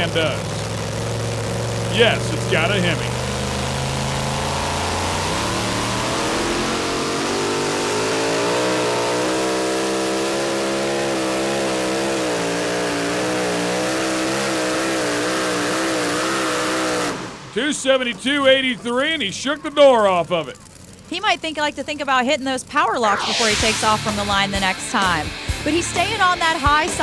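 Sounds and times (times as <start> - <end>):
truck engine at full throttle: 0.0 - 21.1, 23.1 - 27.0.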